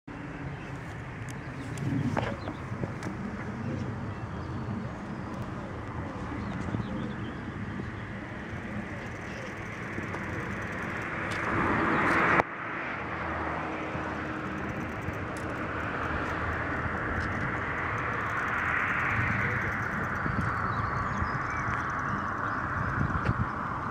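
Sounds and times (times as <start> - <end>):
steady background rush: 0.1 - 23.9.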